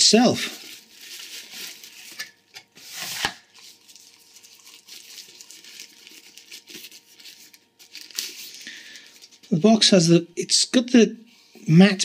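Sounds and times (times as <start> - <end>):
plastic wrapping rustling: 0.0 - 9.9.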